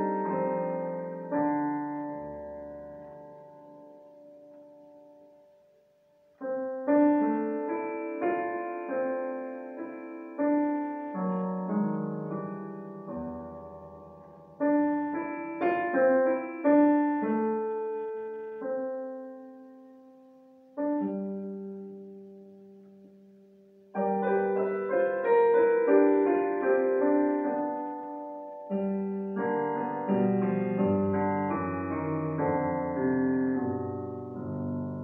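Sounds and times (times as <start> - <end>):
digital piano chords and notes: 0.0 - 35.0.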